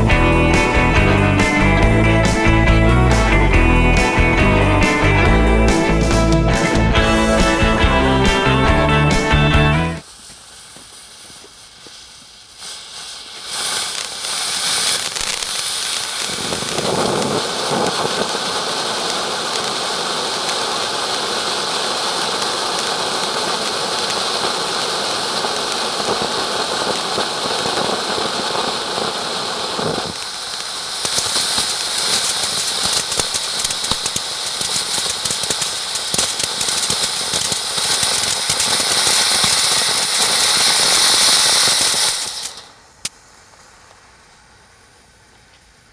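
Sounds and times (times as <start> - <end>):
firework hissing and crackling: 0.0 - 9.4, 10.0 - 45.3.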